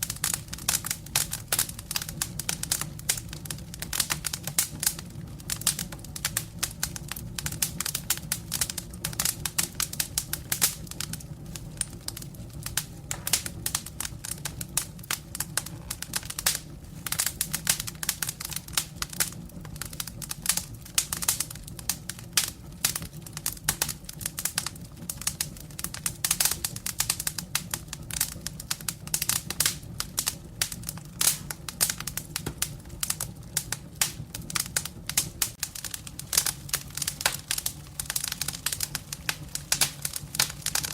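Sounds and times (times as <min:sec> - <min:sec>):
fire rumbling: 0:00.0 - 0:40.9
wood crackling and popping: 0:00.0 - 0:40.9.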